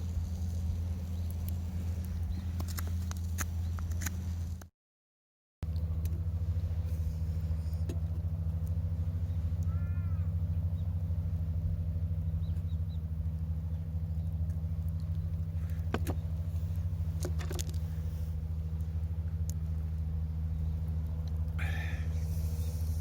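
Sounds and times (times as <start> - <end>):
engine idling: 0.0 - 4.6, 5.6 - 23.0.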